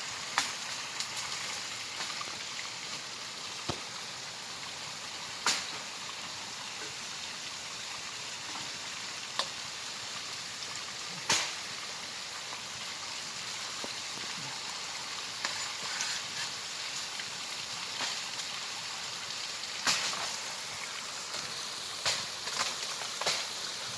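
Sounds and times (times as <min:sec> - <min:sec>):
running water: 0:00.0 - 0:23.9.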